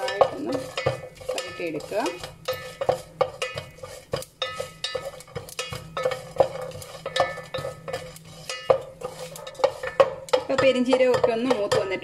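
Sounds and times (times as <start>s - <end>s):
spoon scraping and clinking in pot: 0.0s - 12.0s.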